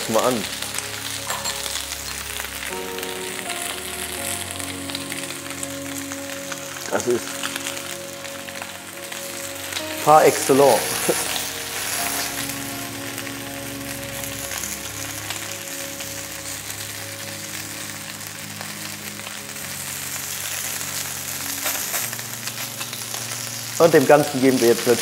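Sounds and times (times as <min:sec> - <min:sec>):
potatoes sizzling in hot fat: 0:00.0 - 0:25.0.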